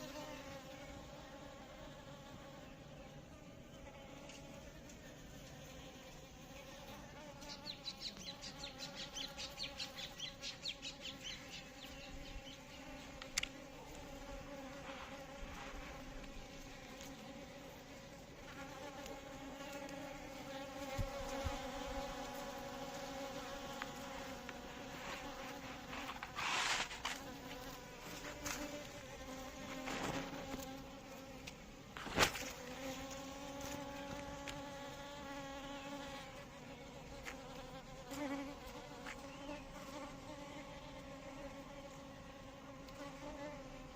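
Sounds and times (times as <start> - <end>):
bees buzzing: 0.0 - 43.9.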